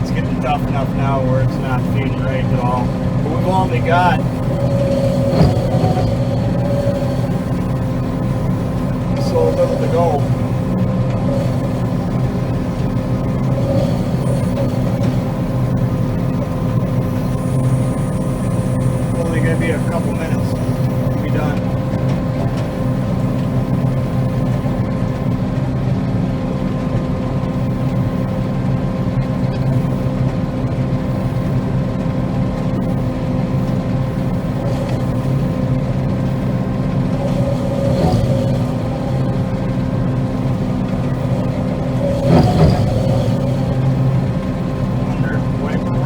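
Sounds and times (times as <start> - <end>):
combine harvester running: 0.0 - 46.0
machinery rattle: 0.0 - 46.0.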